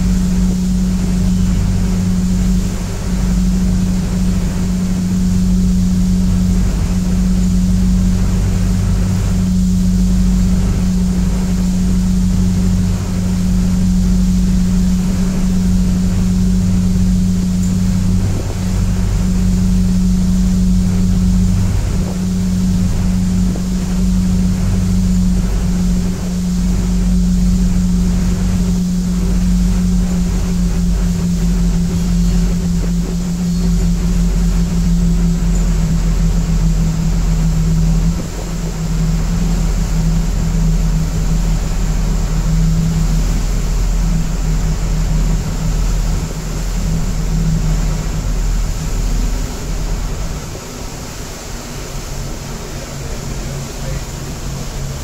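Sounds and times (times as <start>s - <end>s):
ferry engine humming: 0.0s - 55.0s
water wash: 0.0s - 55.0s
wind: 0.0s - 55.0s.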